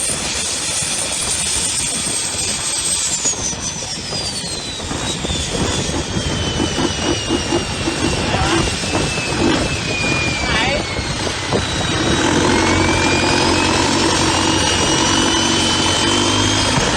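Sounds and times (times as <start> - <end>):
boat diesel engine running hard: 0.0 - 16.9
turbo whine: 0.0 - 16.9.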